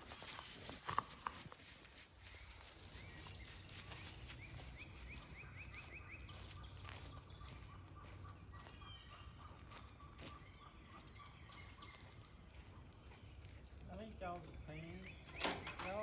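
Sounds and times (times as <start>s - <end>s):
birds chirping and trilling: 2.2s - 16.0s.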